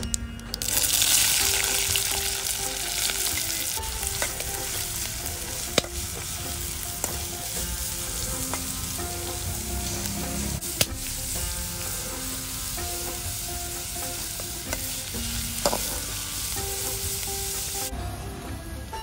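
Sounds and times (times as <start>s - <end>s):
food sizzling in hot oil: 0.5s - 18.0s
metal spatula scraping pan: 1.5s - 17.2s.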